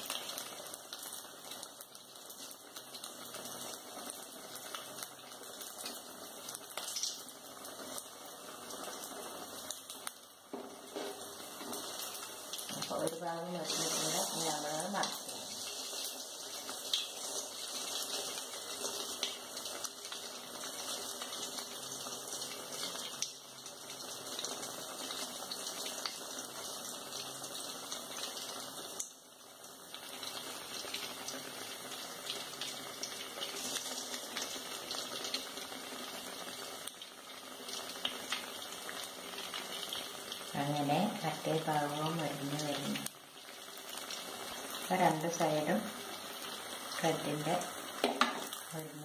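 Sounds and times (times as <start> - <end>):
deep-frying oil sizzling: 0.0 - 49.0.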